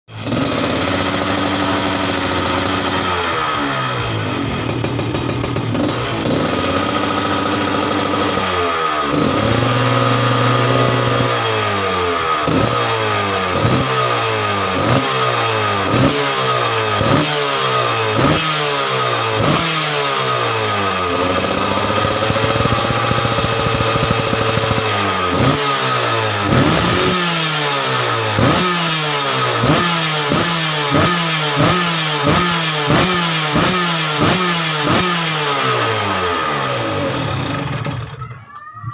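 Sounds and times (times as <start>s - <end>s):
two-stroke engine revving: 0.0s - 38.3s.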